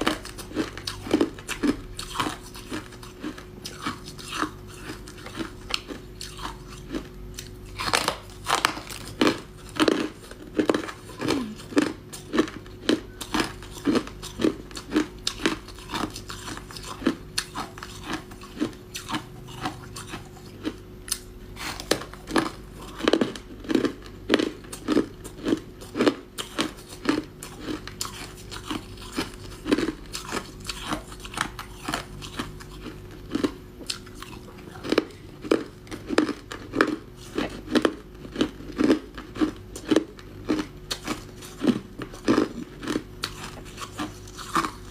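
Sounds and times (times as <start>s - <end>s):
ice crunching being chewed: 0.0s - 44.9s.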